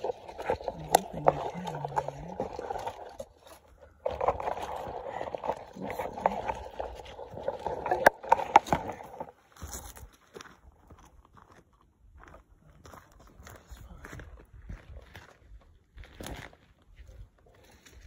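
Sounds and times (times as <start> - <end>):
footsteps on dry dirt: 3.0 - 18.0.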